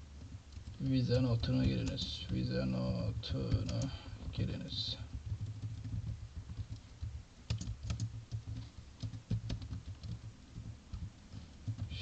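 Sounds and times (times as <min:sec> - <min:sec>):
keyboard typing: 0:00.2 - 0:12.0.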